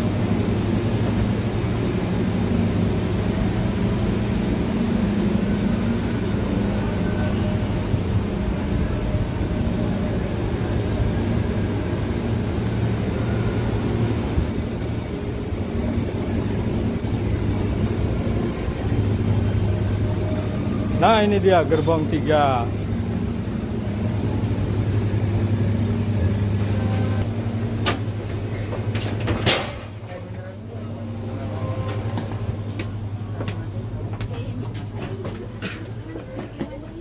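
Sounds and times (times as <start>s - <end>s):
diesel train engine humming: 0.0s - 37.0s.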